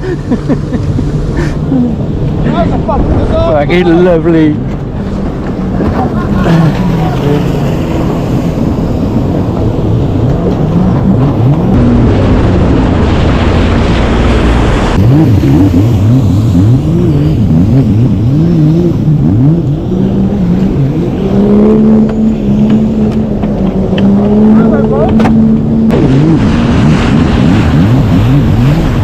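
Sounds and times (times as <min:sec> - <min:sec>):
steady rushing noise: 0:00.0 - 0:29.0
jetski engine revving: 0:04.8 - 0:29.0.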